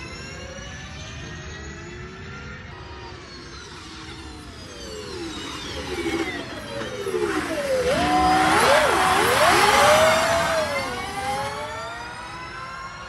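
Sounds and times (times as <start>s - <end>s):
electric car motor whine: 0.0s - 13.0s.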